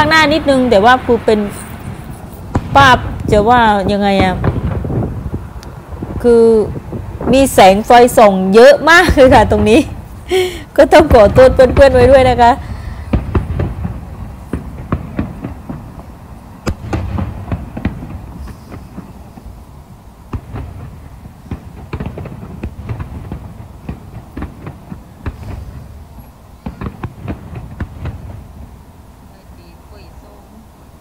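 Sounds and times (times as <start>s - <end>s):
fireworks bangs and crackling pops: 0.0s - 30.1s.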